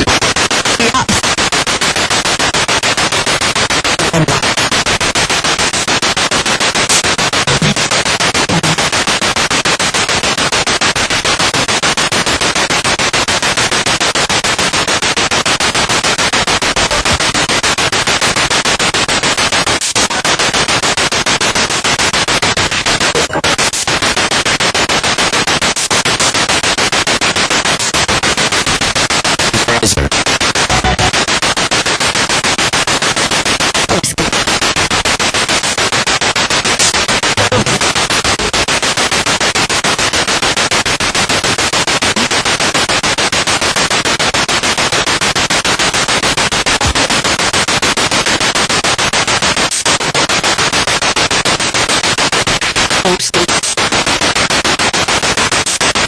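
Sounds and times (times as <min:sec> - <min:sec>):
pulsing radio static: 0:00.0 - 0:56.0
snatches of broadcast sound: 0:00.0 - 0:56.0.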